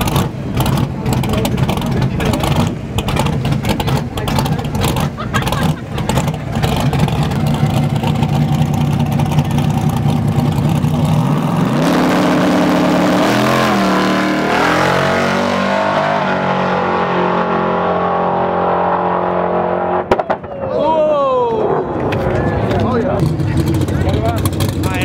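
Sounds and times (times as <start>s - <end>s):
truck engine revving and accelerating: 0.0s - 20.1s, 21.6s - 25.0s.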